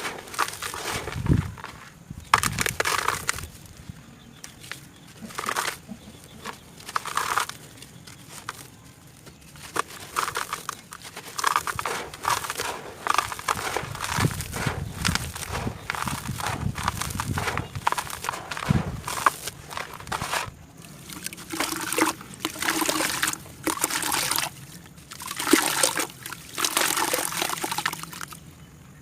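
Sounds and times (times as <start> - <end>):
crisp crunching crackles: 0.0 - 28.4.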